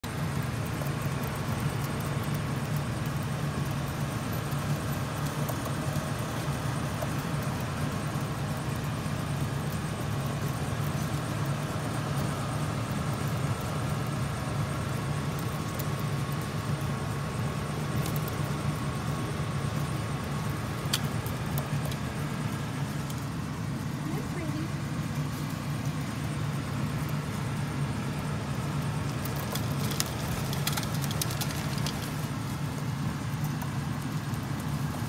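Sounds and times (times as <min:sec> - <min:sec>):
low mechanical hum: 0:00.0 - 0:35.0.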